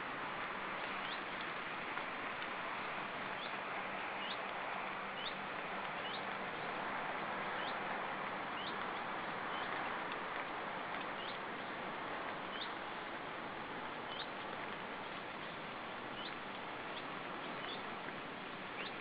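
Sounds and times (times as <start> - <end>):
steady rushing hiss: 0.0 - 19.0.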